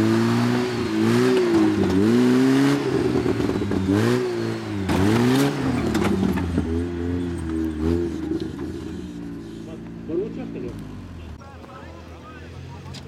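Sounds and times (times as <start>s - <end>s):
truck engine revving: 0.0s - 11.4s.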